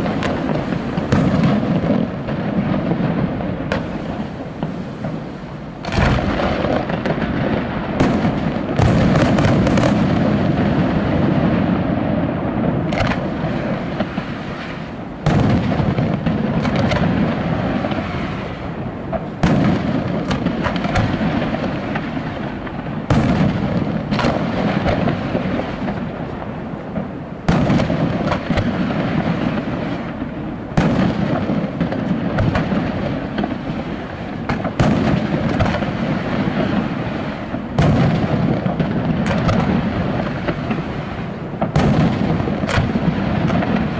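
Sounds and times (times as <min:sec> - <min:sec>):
firework shells bursting: 0:00.0 - 0:11.8, 0:12.6 - 0:43.9.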